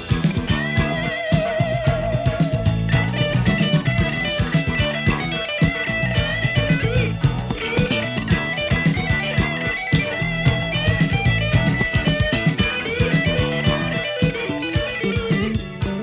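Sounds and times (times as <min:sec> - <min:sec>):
bass guitar: 0:00.0 - 0:16.0
electric guitar lead with bent notes: 0:00.0 - 0:16.0
steady drum beat: 0:00.0 - 0:16.0.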